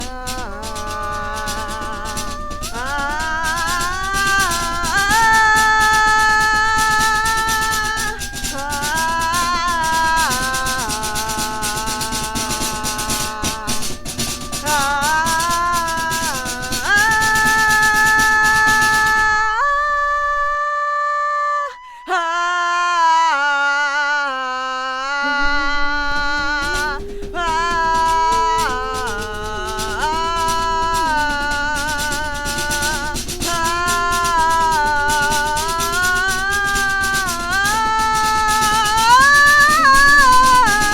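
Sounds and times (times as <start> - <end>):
held melody notes: 0.0 - 20.6, 25.2 - 40.9
shaker-like rattle rhythm: 0.0 - 21.0, 25.0 - 40.9.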